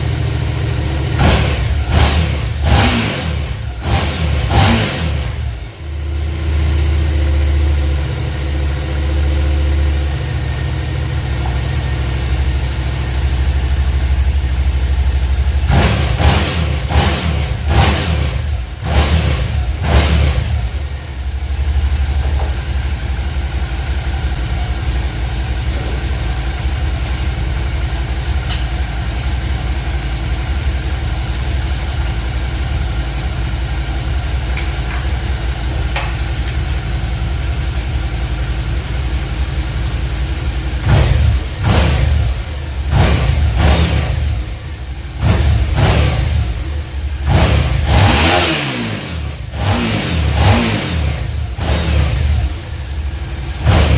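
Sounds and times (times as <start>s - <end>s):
vehicle engine idling and revving: 0.0s - 53.9s.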